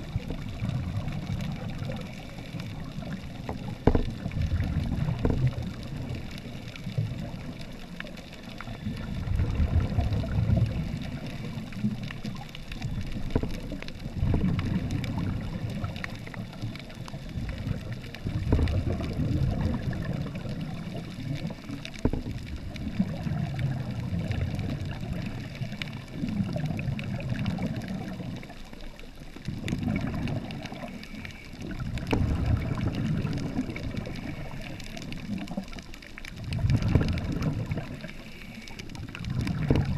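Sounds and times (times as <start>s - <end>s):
faint crackling clicks: 0.0s - 39.9s
scuba regulator exhaust bubbles: 0.0s - 39.9s.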